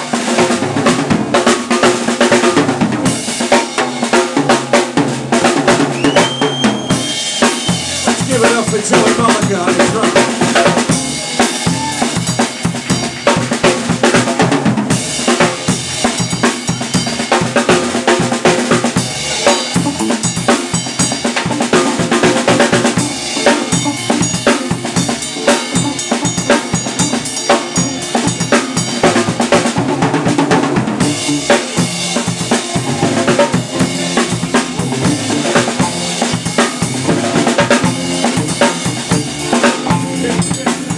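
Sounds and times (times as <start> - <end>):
guitar: 0.0 - 40.9
rock drum kit played fast: 0.0 - 40.9.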